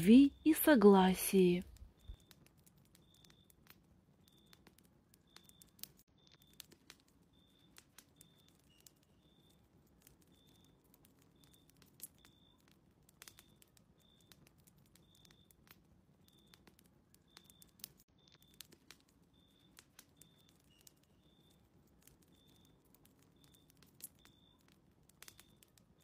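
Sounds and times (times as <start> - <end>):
fireplace crackling: 0.0 - 26.0.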